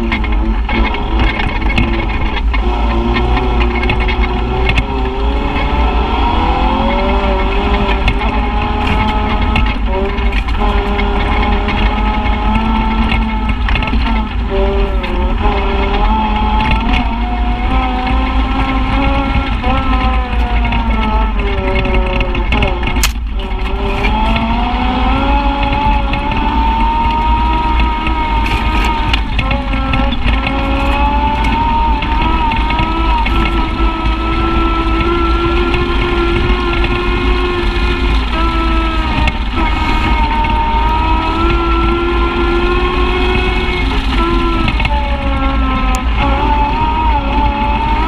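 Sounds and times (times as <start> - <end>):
utility vehicle engine running: 0.0 - 48.0.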